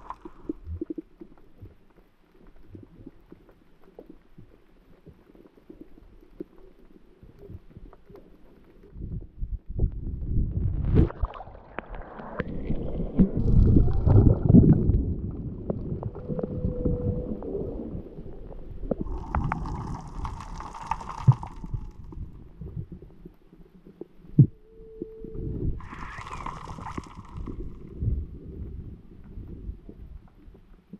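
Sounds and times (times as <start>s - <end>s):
muffled underwater rumbling: 0.0s - 30.9s.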